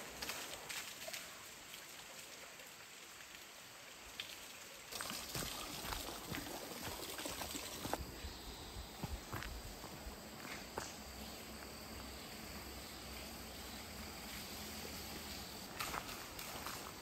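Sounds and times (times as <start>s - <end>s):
insects chirring: 2.4s - 17.0s.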